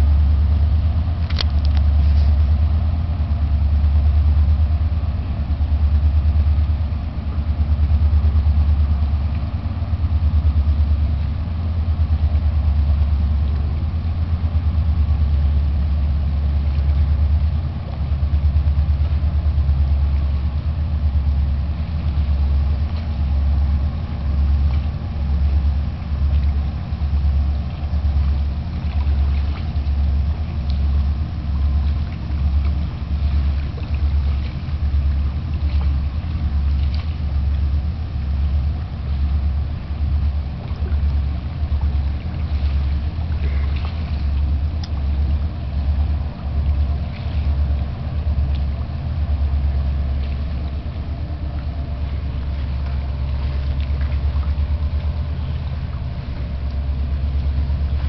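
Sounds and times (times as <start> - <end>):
ship engines throbbing: 0.0 - 58.0.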